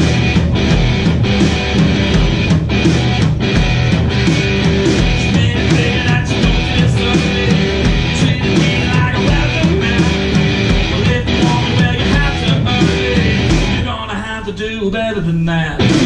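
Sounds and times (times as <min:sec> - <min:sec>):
drum hits: 0:00.0 - 0:13.9, 0:15.8 - 0:16.0
live rock band playing: 0:00.0 - 0:13.9, 0:15.8 - 0:16.0
distorted electric guitar: 0:00.0 - 0:16.0.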